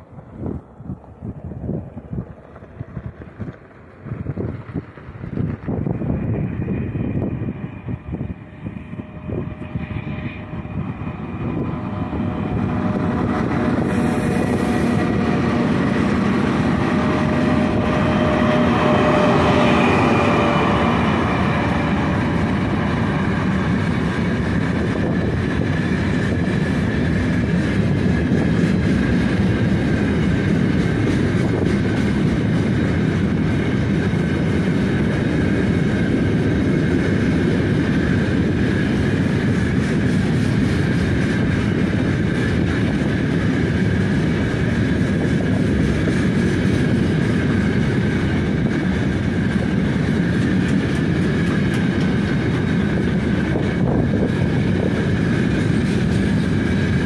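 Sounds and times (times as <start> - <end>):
freight train wheels rolling: 0.0 - 57.0
locomotive whine: 0.0 - 57.0.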